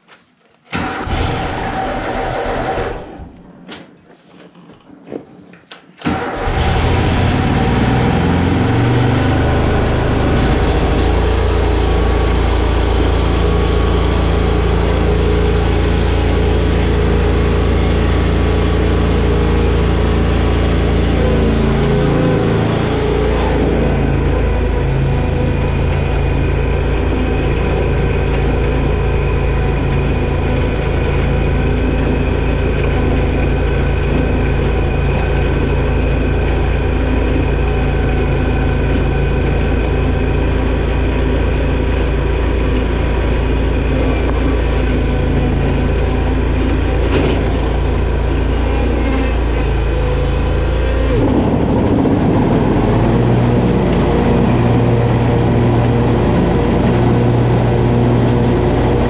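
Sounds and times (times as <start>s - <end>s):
mower engine running: 0.7s - 3.3s, 6.0s - 59.0s.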